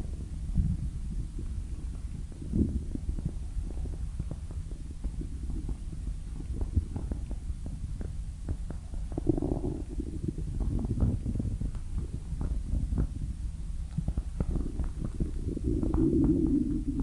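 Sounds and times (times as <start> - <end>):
stomach growling: 0.0 - 17.0
stomach gurgle: 0.0 - 17.0.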